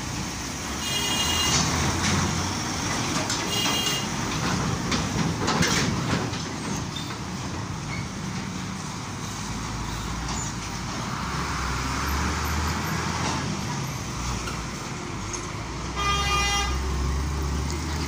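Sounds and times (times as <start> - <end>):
vehicles passing: 0.0 - 18.0.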